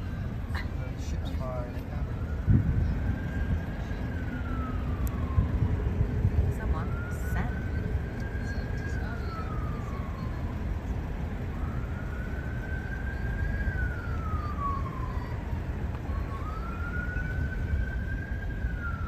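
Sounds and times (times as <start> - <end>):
low rumble of slow car: 0.0 - 19.0
siren-like wailing tone: 0.0 - 19.0.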